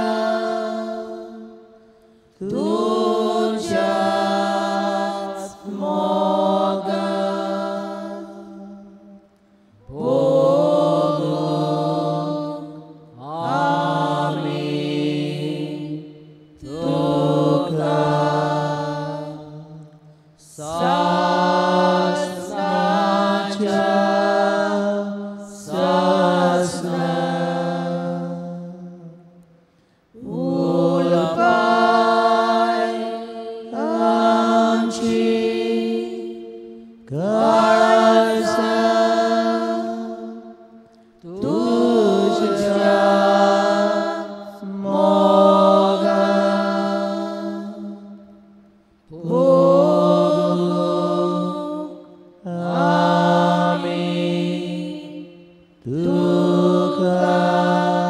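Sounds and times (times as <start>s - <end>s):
slow hymn singing: 0.0s - 58.0s.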